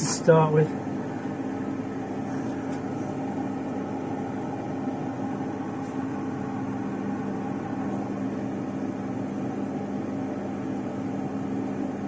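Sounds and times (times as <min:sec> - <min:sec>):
small electric fan humming: 0:00.0 - 0:12.0
low even drone: 0:00.6 - 0:11.0.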